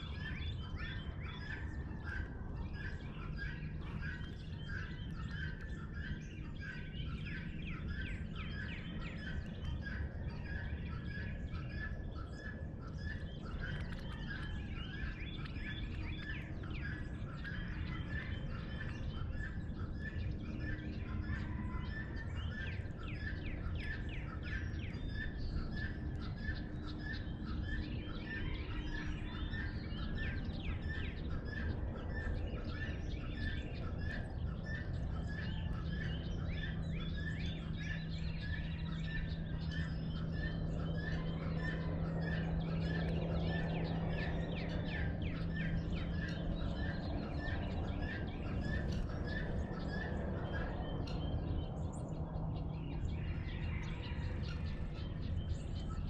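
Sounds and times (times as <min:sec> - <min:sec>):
bird chirping: 0:00.0 - 0:56.0
low steady hum: 0:00.0 - 0:56.0.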